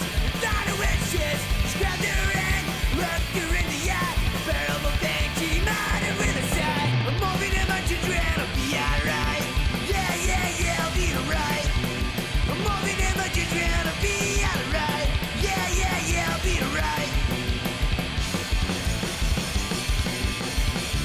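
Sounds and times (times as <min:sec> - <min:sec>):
punk rock band playing: 0:00.0 - 0:21.0.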